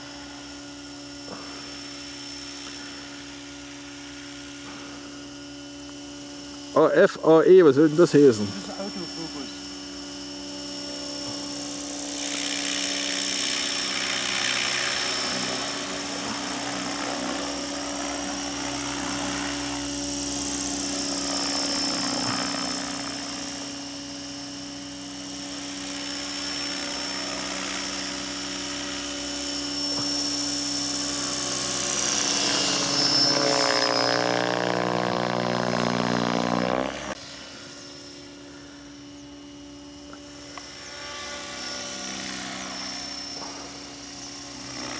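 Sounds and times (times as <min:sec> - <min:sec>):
model helicopter rotor whine: 0:00.0 - 0:44.9.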